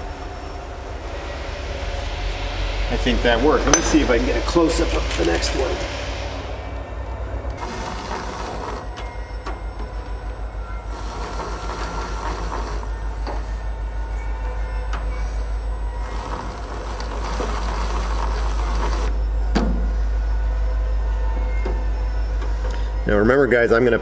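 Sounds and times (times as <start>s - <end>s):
low hum and rumble: 0.0s - 23.0s
thin high whine: 0.0s - 23.2s.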